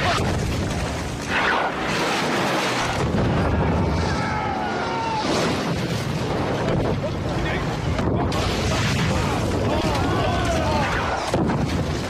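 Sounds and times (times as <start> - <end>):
rumbling explosions: 0.0 - 12.0
loud explosion blast: 1.8 - 11.8.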